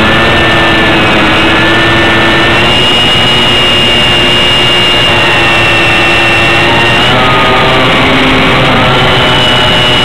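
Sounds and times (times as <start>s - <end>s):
model plane motor whine: 0.0s - 10.0s
wind rush on microphone: 0.0s - 10.0s.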